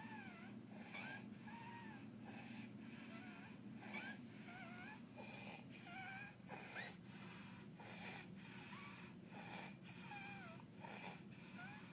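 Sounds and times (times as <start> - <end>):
baby breathing with stridor: 0.0 - 11.9.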